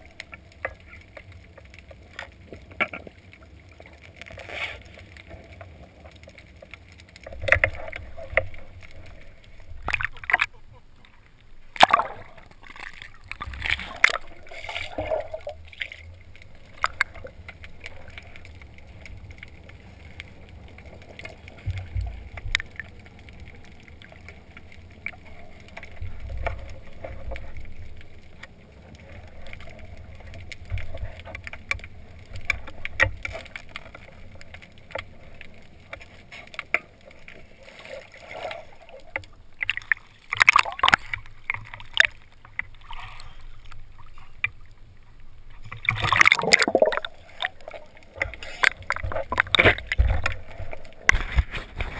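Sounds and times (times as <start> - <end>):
water splashing: 0.0 - 51.9
water gurgling underwater: 7.2 - 36.0, 37.0 - 44.8, 45.4 - 51.9.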